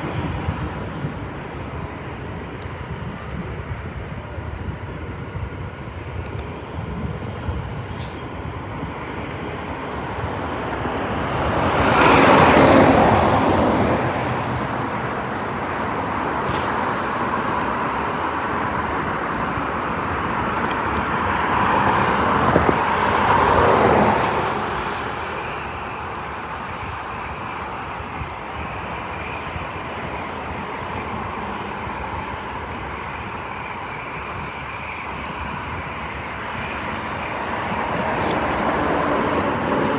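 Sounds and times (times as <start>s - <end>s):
cars passing by: 0.0s - 39.9s.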